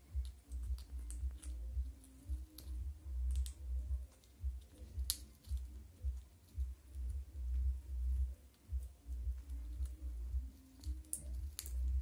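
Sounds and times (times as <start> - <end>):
parakeet crunching food: 0.1 - 7.7, 8.5 - 12.0
low pulsing rumble: 0.1 - 10.6.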